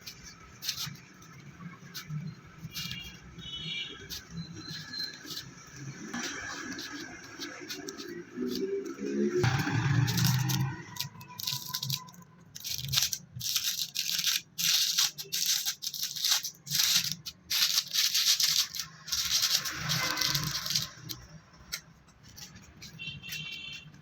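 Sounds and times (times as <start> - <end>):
rough scraping strokes: 0.0 - 24.0.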